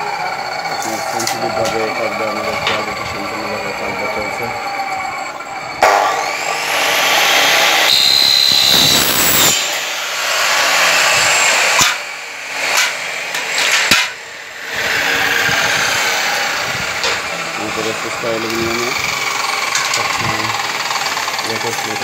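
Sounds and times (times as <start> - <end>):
chop saw cutting metal: 0.0 - 22.0.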